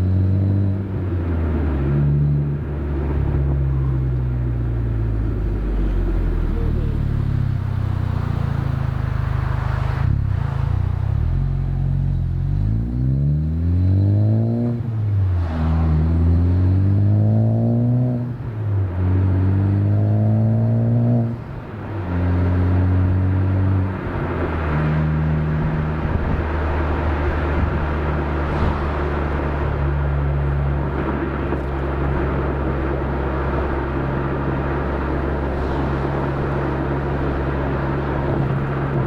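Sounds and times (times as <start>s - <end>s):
car engine accelerating through gears: 0.0s - 39.0s.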